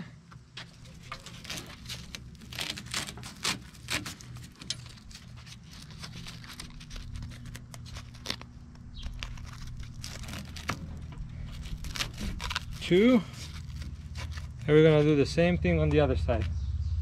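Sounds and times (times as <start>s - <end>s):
low hum: 0.0s - 17.0s
velcro strap rustling and clicking: 0.6s - 15.1s.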